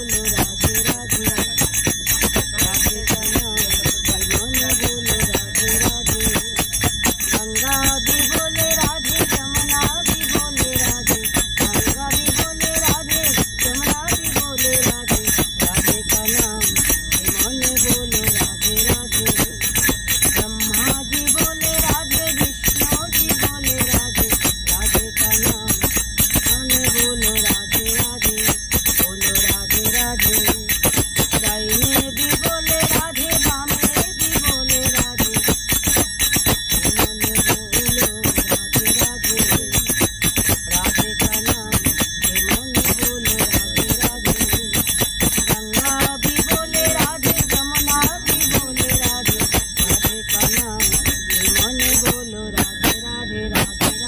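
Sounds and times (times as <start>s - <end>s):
small hand cymbals clashing: 0.0s - 54.0s
woman singing devotional song: 0.0s - 54.0s.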